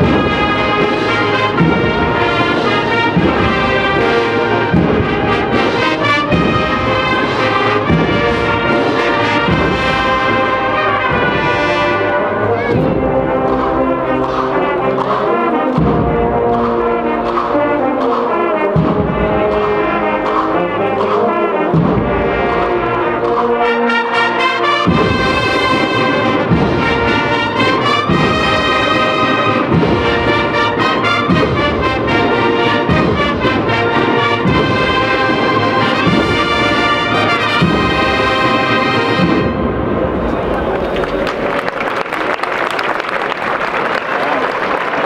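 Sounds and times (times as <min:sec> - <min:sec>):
steady drum beat: 0:00.0 - 0:41.0
trumpets and trombones melody: 0:00.0 - 0:41.1
brass band march: 0:00.0 - 0:45.0.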